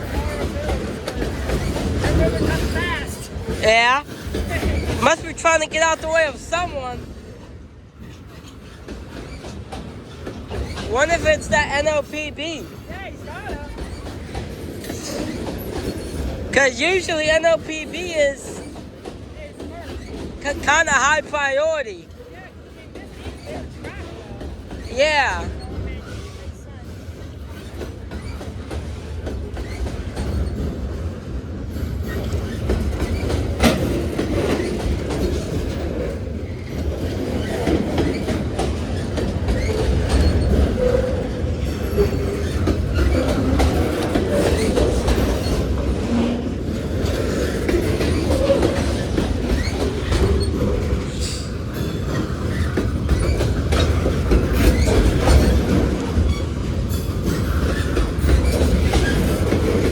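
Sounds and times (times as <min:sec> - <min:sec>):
wheel squeals: 0:00.0 - 0:07.3, 0:08.0 - 0:21.3, 0:22.8 - 0:59.9
freight train rolling past: 0:00.0 - 0:59.9.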